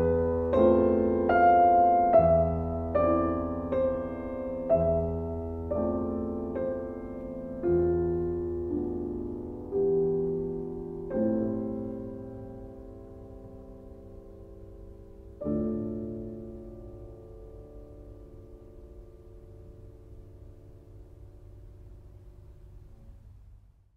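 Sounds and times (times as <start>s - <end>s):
slow gentle piano music: 0.0s - 23.9s.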